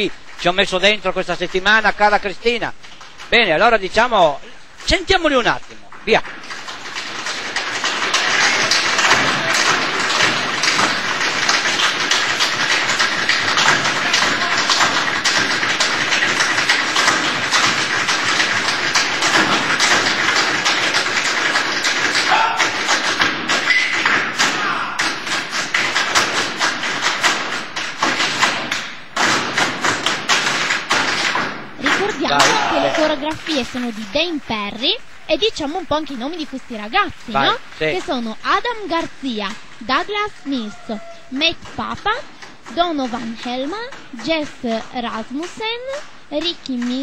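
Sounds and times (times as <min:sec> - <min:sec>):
tap dancers tapping and stamping: 0:00.0 - 0:04.2, 0:04.8 - 0:47.0.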